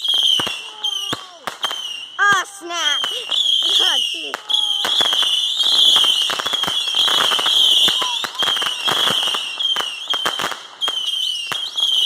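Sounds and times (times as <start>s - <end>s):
firework whistle: 0.0s - 2.2s, 2.8s - 12.0s
firework cracks and pops: 0.0s - 12.0s.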